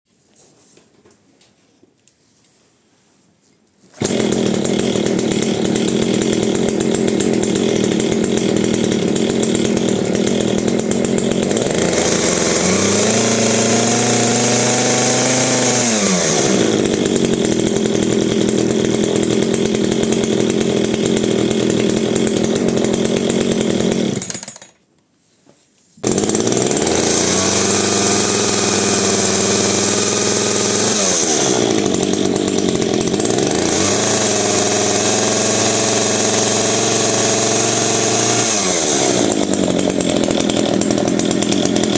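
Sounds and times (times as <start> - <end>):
chainsaw engine idling and revving: 4.0 - 24.7, 26.0 - 41.9.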